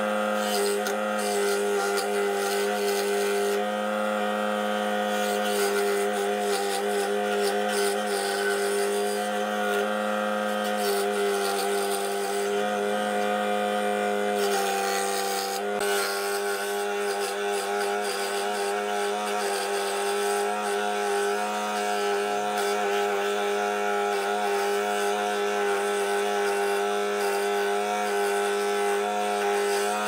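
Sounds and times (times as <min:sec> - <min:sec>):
scroll saw cutting wood: 0:00.0 - 0:30.0.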